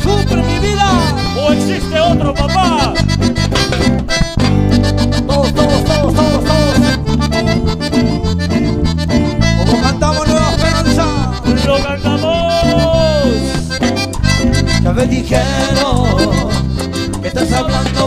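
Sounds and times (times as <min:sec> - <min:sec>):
cumbia band playing: 0:00.0 - 0:18.0.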